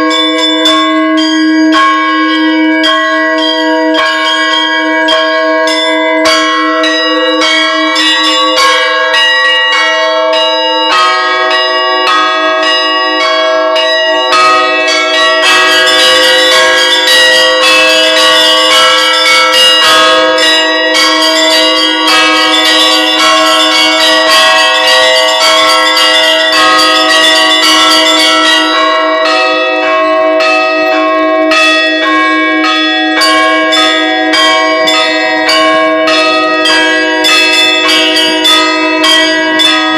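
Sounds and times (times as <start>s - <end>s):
bells ringing in a peal: 0.0s - 39.9s.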